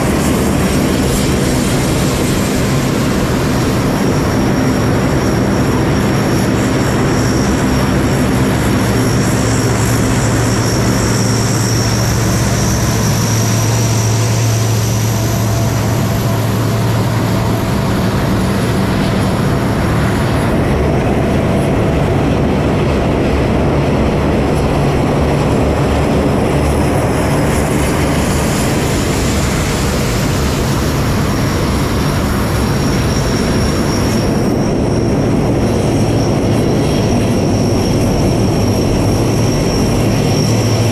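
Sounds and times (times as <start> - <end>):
high turbine whine: 0.0 - 40.9
propeller aircraft drone: 0.0 - 40.9.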